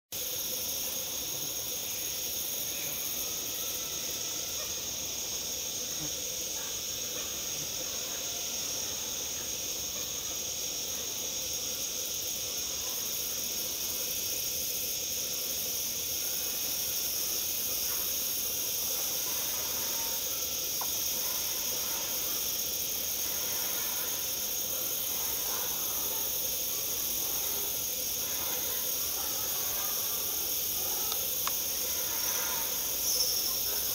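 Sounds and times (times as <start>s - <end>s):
high-pitched insect chorus: 0.1s - 33.9s.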